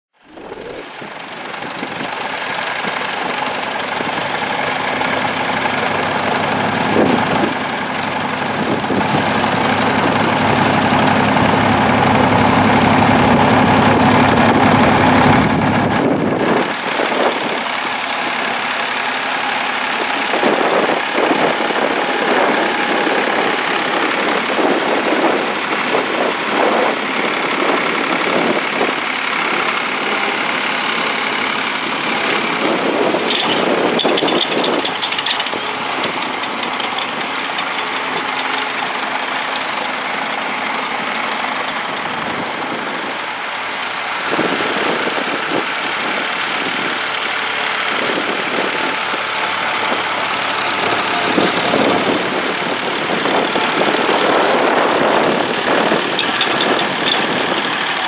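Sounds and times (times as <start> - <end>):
tractor engine running under load: 0.2 - 58.0.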